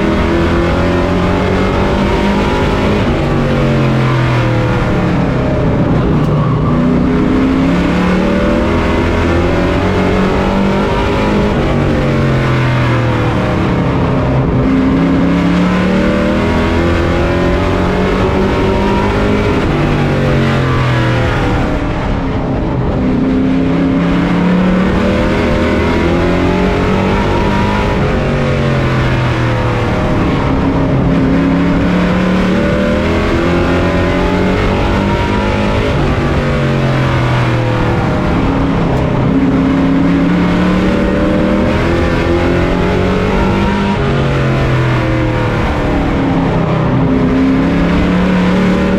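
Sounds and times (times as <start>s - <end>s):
race truck engine revving: 0.0s - 48.9s.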